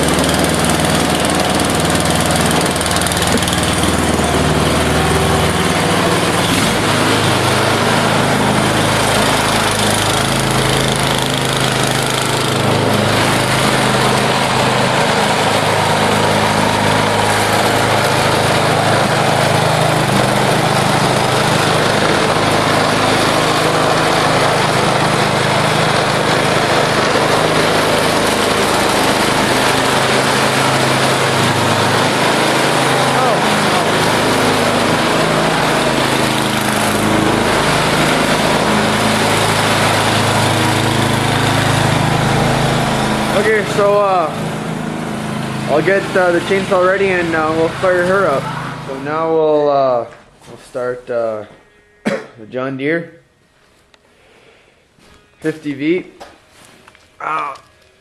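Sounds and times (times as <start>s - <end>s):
snowblower engine running: 0.0s - 51.4s.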